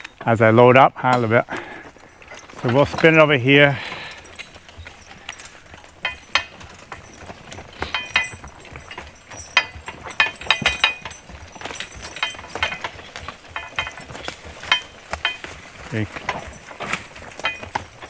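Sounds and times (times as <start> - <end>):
harness and chain clinking: 0.0 - 18.0
horse hooves: 0.0 - 18.0
wagon knocking: 0.0 - 18.0.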